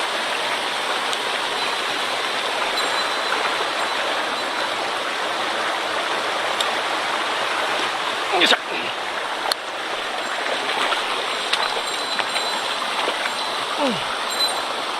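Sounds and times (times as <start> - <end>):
mountain stream rushing: 0.0 - 14.9.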